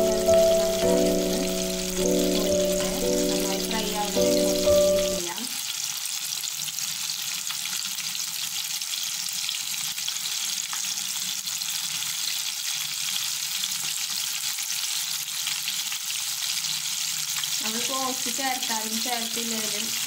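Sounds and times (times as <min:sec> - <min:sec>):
chicken deep-frying in oil: 0:00.0 - 0:20.0.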